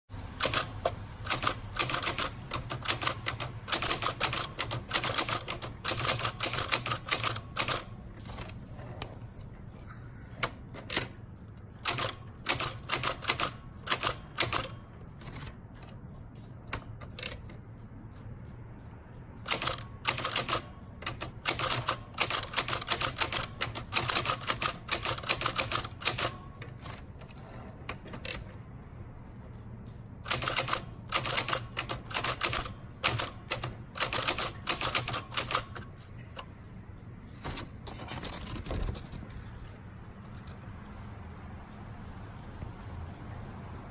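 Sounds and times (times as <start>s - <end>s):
typewriter keys clicking: 0.2s - 8.7s, 10.4s - 28.6s, 30.0s - 36.5s, 37.3s - 39.6s.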